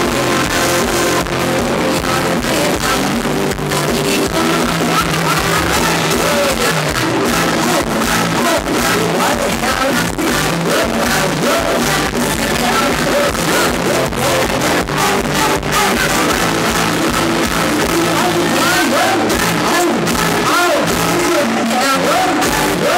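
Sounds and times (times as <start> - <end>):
live band music: 0.0 - 22.9.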